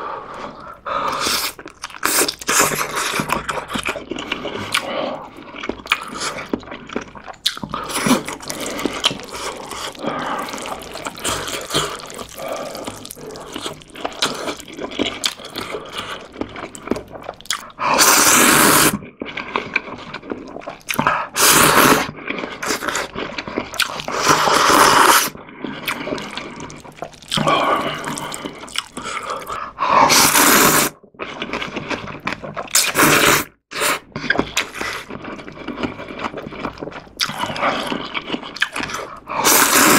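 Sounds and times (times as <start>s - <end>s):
wet chewing: 0.3s - 39.9s
noodle slurps: 7.8s - 39.9s.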